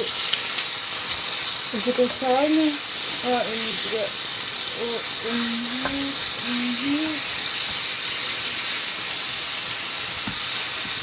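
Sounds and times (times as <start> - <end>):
bacon sizzling in a frying pan: 0.0 - 11.0.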